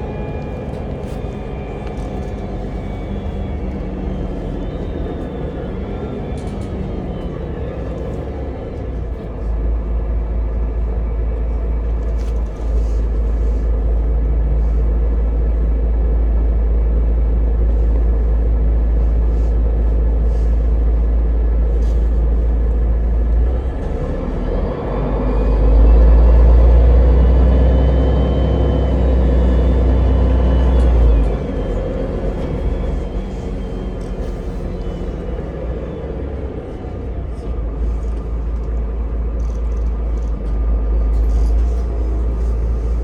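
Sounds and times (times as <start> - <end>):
bus engine rumble from on board: 0.0 - 43.0.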